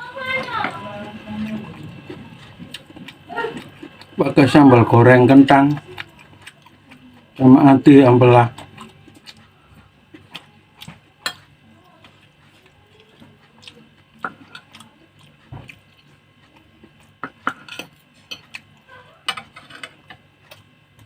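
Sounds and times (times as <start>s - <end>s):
chewing: 0.3s - 4.6s, 5.4s - 7.4s, 8.4s - 20.8s.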